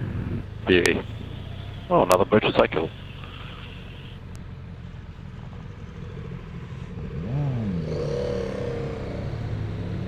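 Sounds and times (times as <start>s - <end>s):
motorcycle engine revving: 0.0s - 10.0s
motorcycle engines running: 0.0s - 10.0s.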